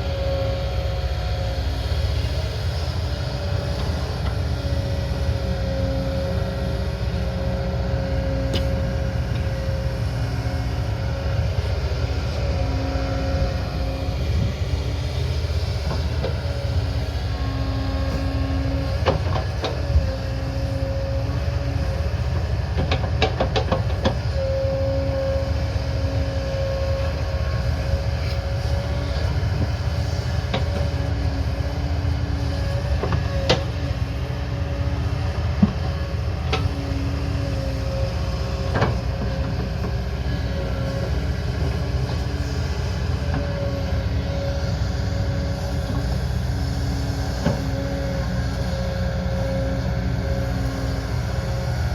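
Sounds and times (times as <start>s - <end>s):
diesel engine rumbling under load: 0.0s - 51.9s.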